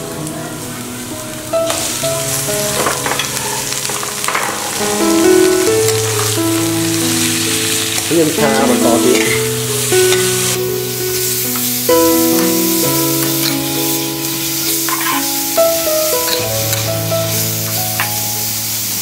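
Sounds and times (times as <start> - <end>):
background music with held notes: 0.0 - 19.0
beef sizzling in a wok: 0.0 - 19.0
metal spatula scraping wok: 2.3 - 18.4.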